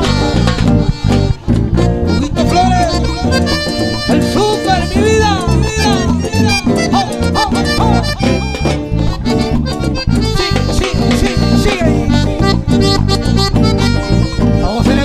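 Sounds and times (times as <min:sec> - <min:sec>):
latin band playing: 0:00.0 - 0:15.0.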